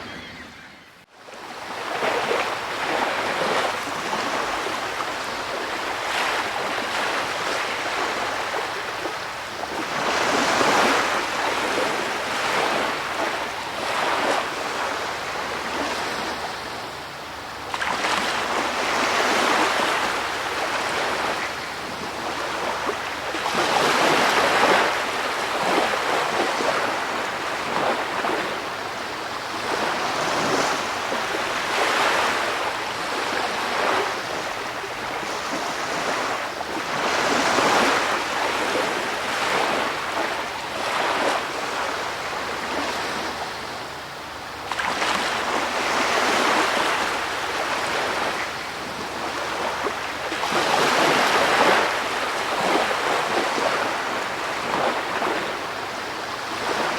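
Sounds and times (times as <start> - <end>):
ocean waves washing: 0.0 - 56.9.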